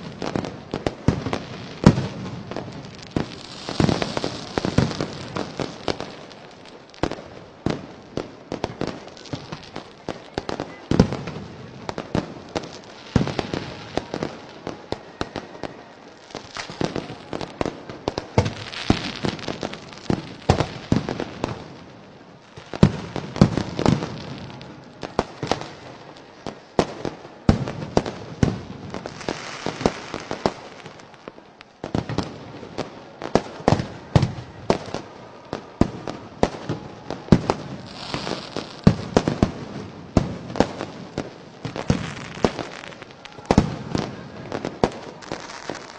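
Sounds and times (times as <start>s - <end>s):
firecrackers bangs and pops: 0.0s - 31.1s, 31.8s - 45.9s
crackling hiss: 0.0s - 45.9s.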